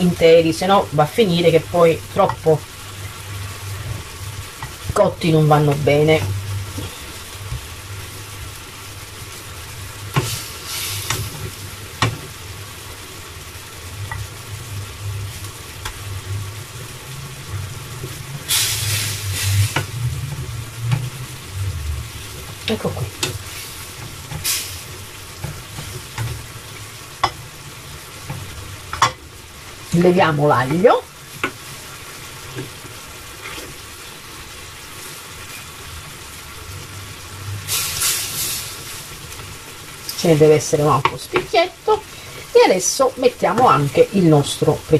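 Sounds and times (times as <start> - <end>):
fish sizzling in sauce: 0.0 - 44.9.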